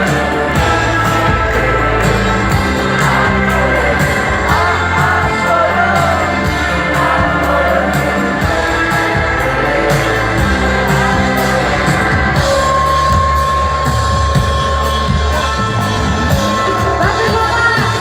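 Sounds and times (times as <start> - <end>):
deep bass: 0.0 - 18.0
drum beat: 0.0 - 18.0.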